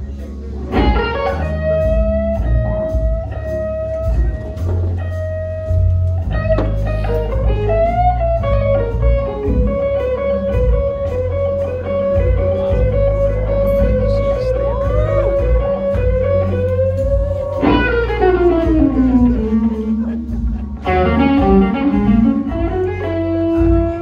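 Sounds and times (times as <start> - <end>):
band backing: 0.0 - 24.0
electric blues guitar solo: 0.5 - 24.0.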